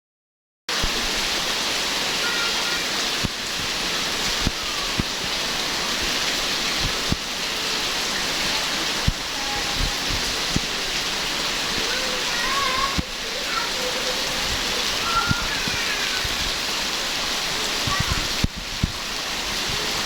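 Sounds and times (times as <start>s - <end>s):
heavy rain hissing: 0.7s - 20.0s.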